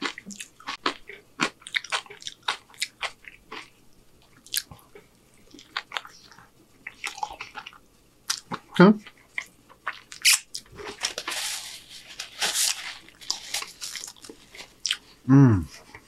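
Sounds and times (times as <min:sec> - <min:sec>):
man chewing food: 0:00.0 - 0:16.0.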